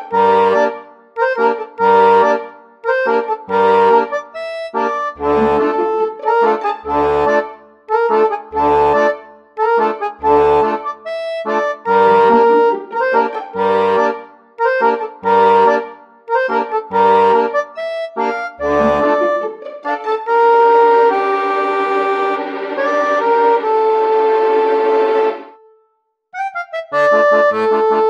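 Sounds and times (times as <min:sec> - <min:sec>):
bouncy instrumental music: 0:00.0 - 0:25.8, 0:26.4 - 0:28.0.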